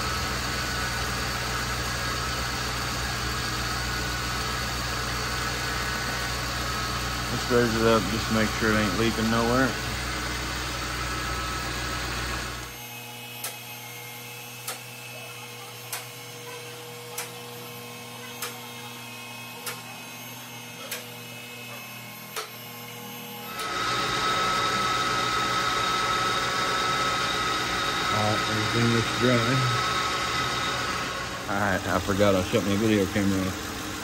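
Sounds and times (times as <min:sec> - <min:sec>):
electric pump motor whine: 0:00.0 - 0:34.0
steady mechanical running: 0:00.0 - 0:34.0.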